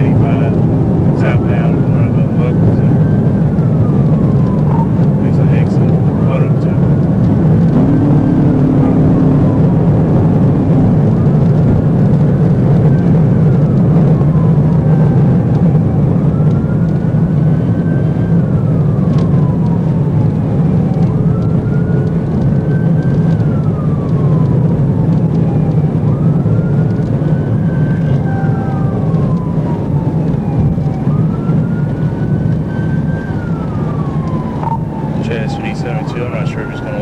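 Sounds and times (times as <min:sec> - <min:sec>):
car engine and tyres drone: 0:00.0 - 0:37.0
police siren wailing: 0:00.0 - 0:37.0.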